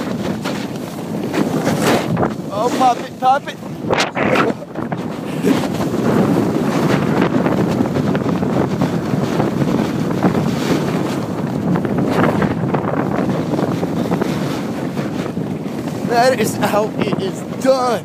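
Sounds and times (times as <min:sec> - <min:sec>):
wind roaring over microphone: 0:00.0 - 0:18.0.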